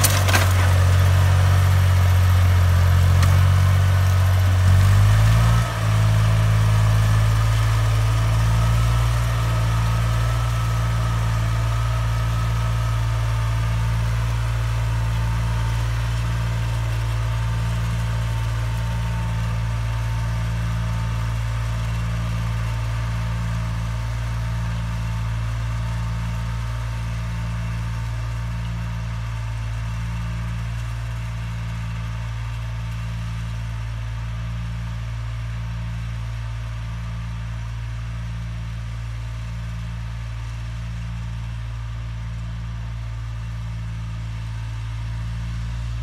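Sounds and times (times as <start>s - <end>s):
tractor engine droning: 0.0s - 46.0s.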